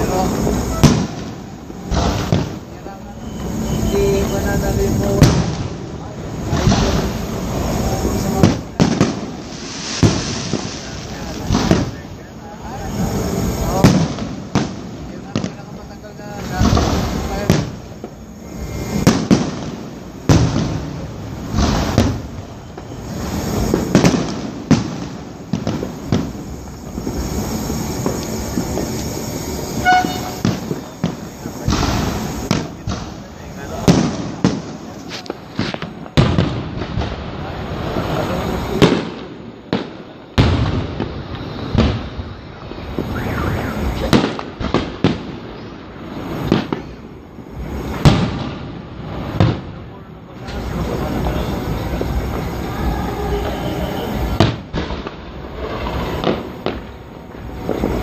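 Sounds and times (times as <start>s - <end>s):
firework shells bursting with bangs: 0.0s - 58.0s
rumbling and crackling: 0.0s - 58.0s.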